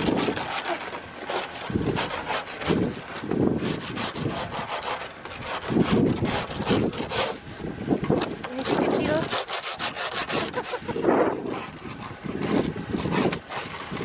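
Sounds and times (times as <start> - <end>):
scraper scraping ice off window: 0.0 - 14.0.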